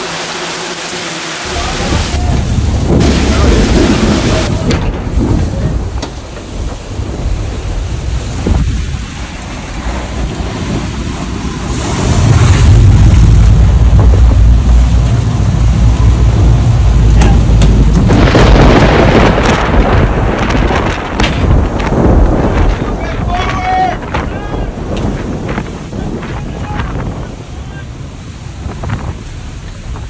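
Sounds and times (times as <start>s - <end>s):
rain hiss: 0.0s - 30.0s
wind buffeting microphone: 1.4s - 30.0s.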